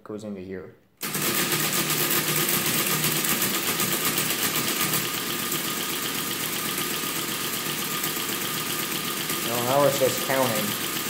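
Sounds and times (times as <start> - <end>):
mechanical calculator clattering: 1.0 - 11.0.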